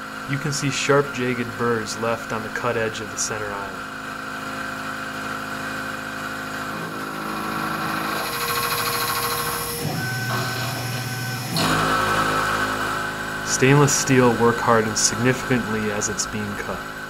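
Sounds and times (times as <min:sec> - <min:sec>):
milling machine cutting steel: 0:03.3 - 0:17.0.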